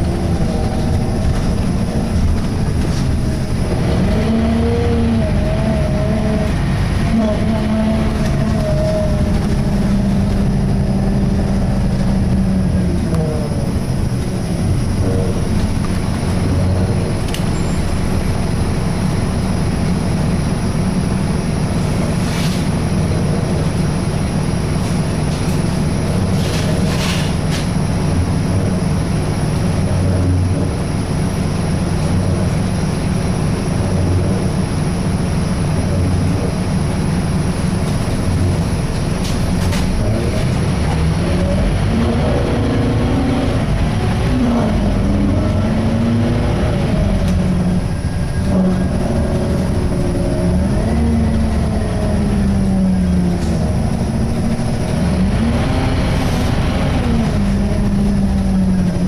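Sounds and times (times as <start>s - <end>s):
bus engine groaning: 0.0s - 59.0s.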